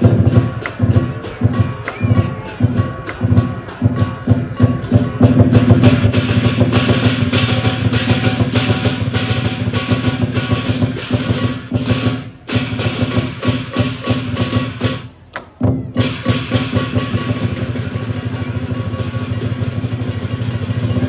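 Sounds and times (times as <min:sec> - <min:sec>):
cymbals crashing: 0:00.0 - 0:15.2, 0:16.0 - 0:21.0
big drum beaten fast: 0:00.0 - 0:21.0.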